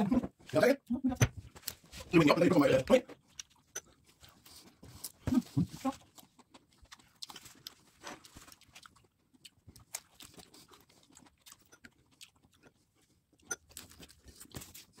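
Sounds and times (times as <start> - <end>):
person chewing and crunching: 1.5 - 15.0.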